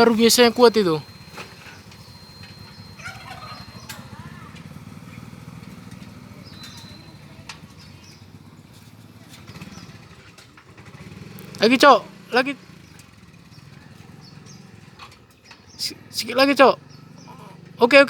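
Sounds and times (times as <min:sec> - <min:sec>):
faint distant voices: 0:00.0 - 0:15.0
engine idling: 0:00.0 - 0:18.0.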